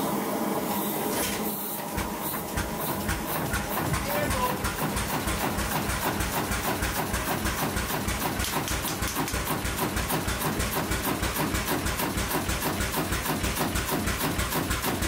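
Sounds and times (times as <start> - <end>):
marine engine idling: 2.6 - 15.0.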